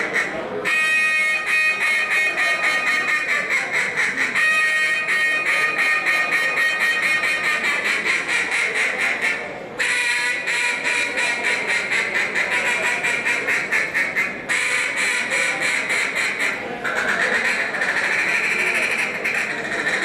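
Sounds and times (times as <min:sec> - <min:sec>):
duck call quacking: 0:00.0 - 0:20.0.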